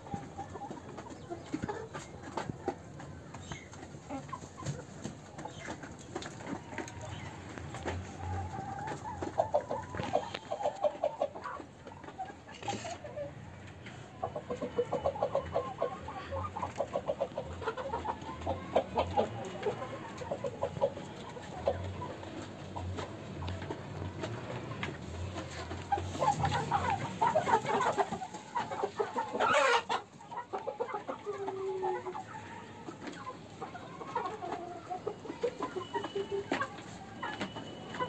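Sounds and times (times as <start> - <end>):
hens clucking: 0.0 - 38.0.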